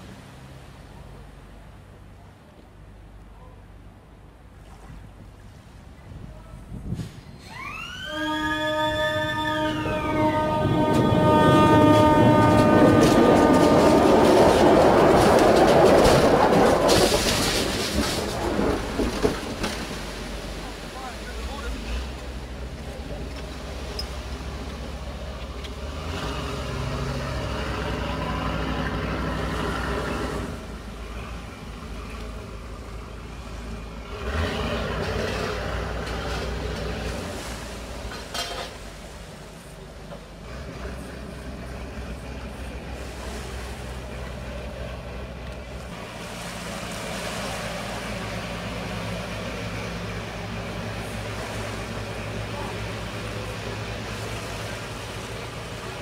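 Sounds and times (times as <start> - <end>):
rushing water noise: 0.0 - 6.1, 7.4 - 56.0
boat diesel engines humming: 0.0 - 56.0
wash of noise: 0.0 - 56.0.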